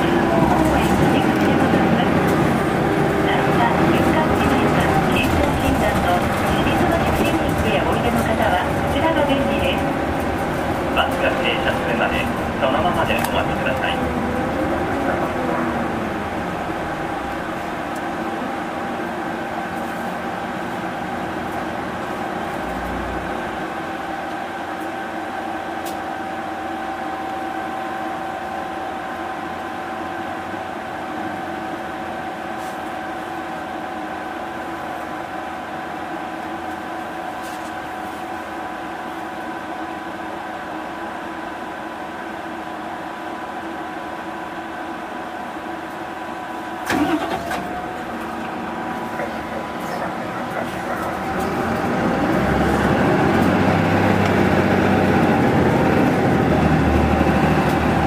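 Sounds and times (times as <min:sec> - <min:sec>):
bus cabin drone: 0:00.0 - 0:58.0.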